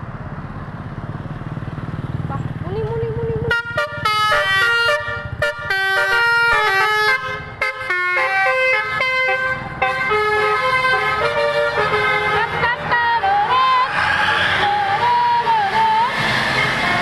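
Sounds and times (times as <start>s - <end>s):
multi-tone bus horn melody: 3.4s - 17.0s.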